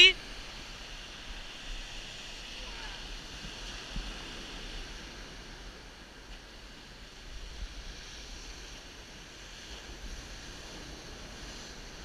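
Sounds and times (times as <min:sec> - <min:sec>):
ocean surf on sandy beach: 0:00.0 - 0:12.0
wind rumbling on microphone: 0:00.0 - 0:12.0.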